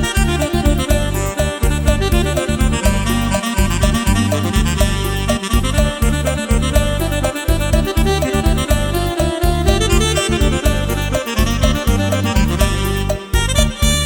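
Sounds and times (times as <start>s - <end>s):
electronic keyboard dance music: 0.0s - 14.0s
pulsing bass beat: 0.0s - 14.0s
reedy synth melody: 0.0s - 14.0s.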